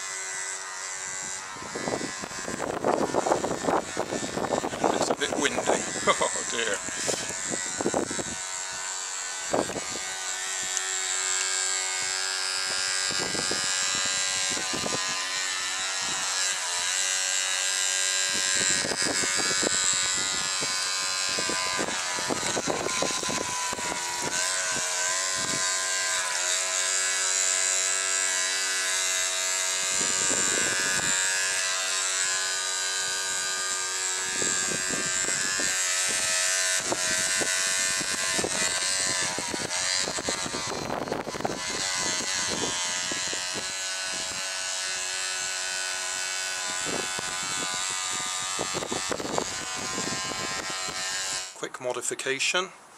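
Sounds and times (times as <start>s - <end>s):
electric toothbrush motor buzzing: 0.0s - 51.6s
wind on microphone: 1.0s - 16.7s, 17.8s - 27.2s, 29.5s - 31.8s, 33.2s - 44.6s, 46.4s - 51.5s.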